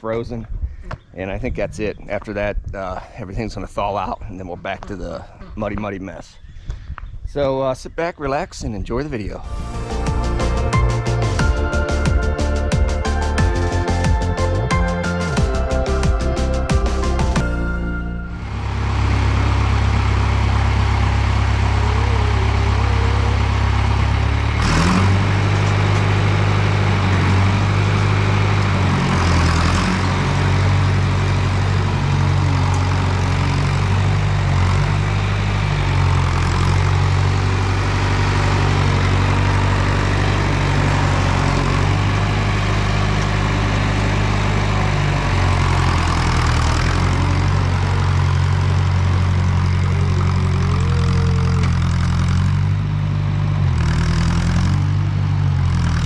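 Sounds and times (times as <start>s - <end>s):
tractor engine running: 9.4s - 56.0s.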